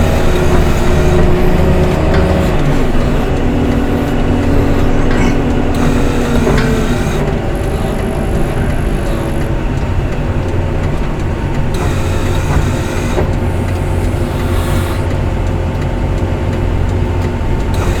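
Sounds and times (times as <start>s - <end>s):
faint steady whine: 0.0s - 15.7s
diesel engine running: 0.0s - 18.0s.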